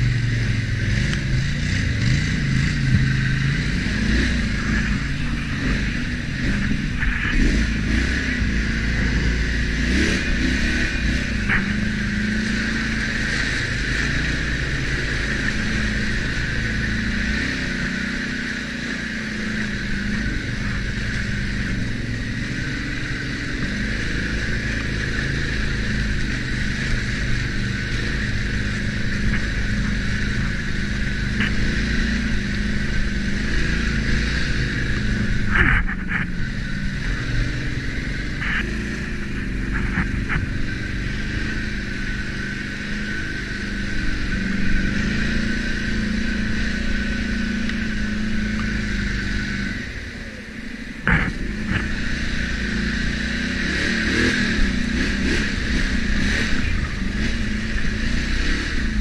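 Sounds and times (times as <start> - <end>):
atv engine running: 0.0 - 59.0
steady high whine: 0.0 - 59.0.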